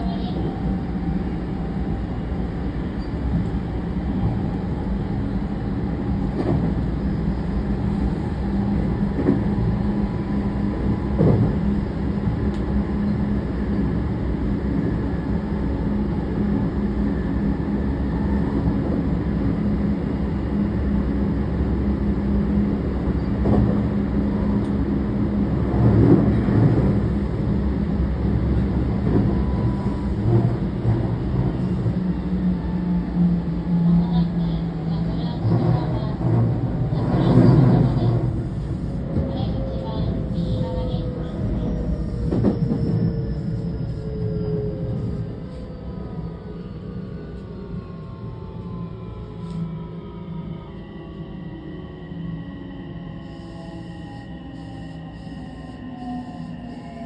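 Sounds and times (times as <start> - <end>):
train wheels rumbling on rail: 0.0 - 51.1.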